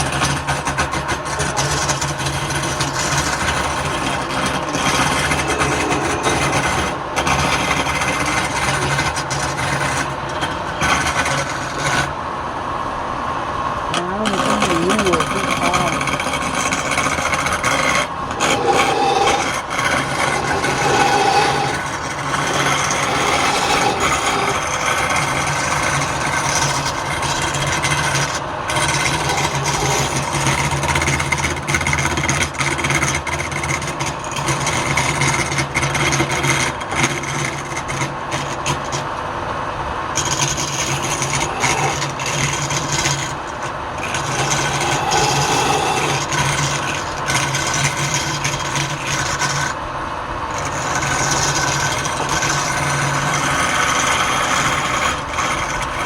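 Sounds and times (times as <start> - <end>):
tool scraping spinning wood: 0.0 - 56.0
wood lathe motor hum: 0.0 - 56.0.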